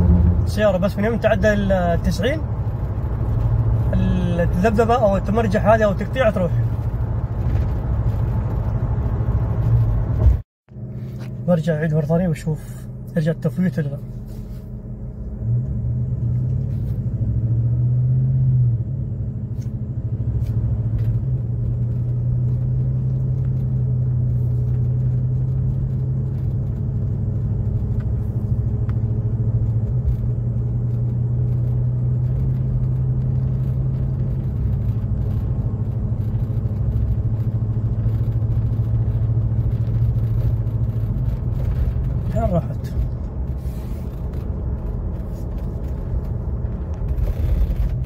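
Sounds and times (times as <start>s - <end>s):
truck engine low hum: 0.0s - 48.0s.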